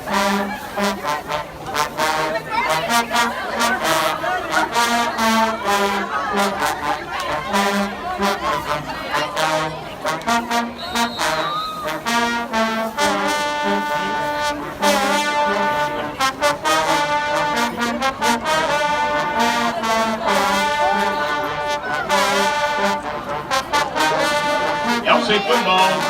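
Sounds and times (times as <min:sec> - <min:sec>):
brass playing tune: 0:00.0 - 0:26.0
low brass line: 0:00.0 - 0:26.0.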